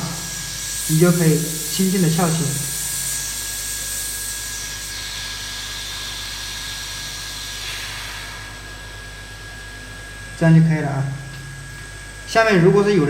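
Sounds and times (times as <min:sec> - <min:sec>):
hot air station hissing and whining: 0:00.0 - 0:13.0.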